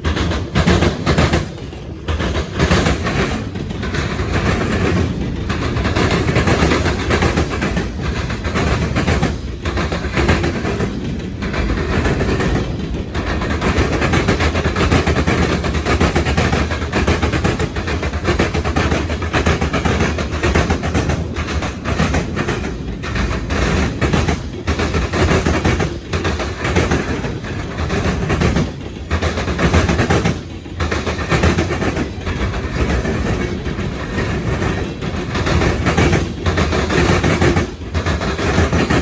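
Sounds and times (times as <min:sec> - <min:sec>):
passing train noise: 0:00.0 - 0:39.0
train wheels banging over crossings: 0:00.0 - 0:39.0.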